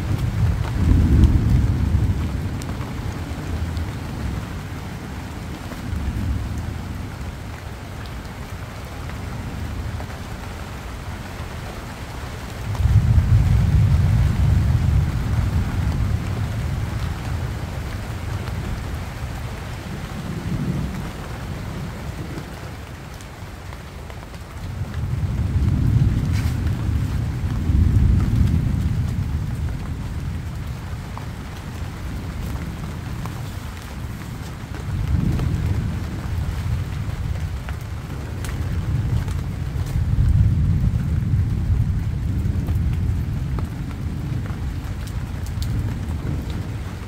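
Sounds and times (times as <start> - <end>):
thunder rumbling: 0.0 - 10.0, 11.4 - 23.2, 24.3 - 47.0
rain falling on leaves: 0.0 - 47.0.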